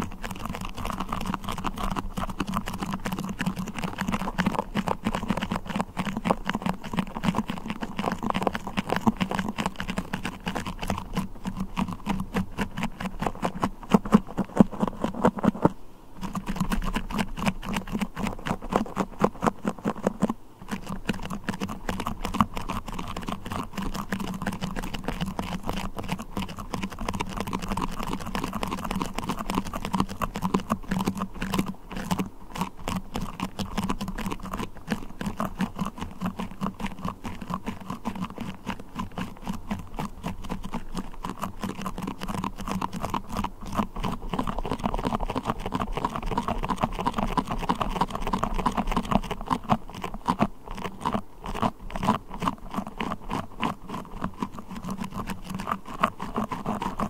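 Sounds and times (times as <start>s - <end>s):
tacky clicks and crackles: 0.0s - 57.0s.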